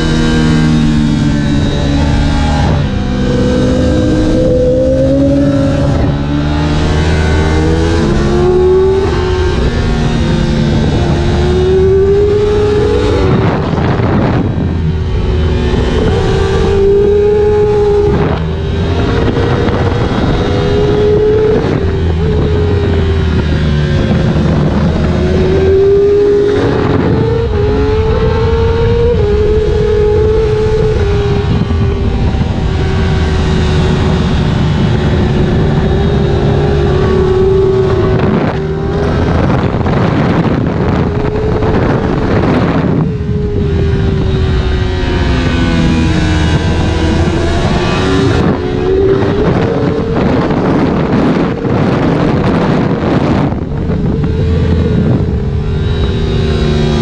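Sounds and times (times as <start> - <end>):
motorcycle engine at high revs: 0.0 - 57.0
wind rush on microphone: 0.0 - 57.0.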